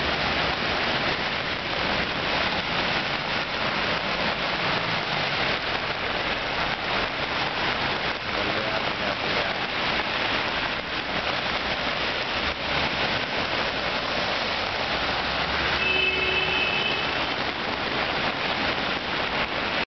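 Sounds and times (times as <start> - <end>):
tyres splashing through water: 0.0 - 19.8
rain falling: 0.0 - 19.9.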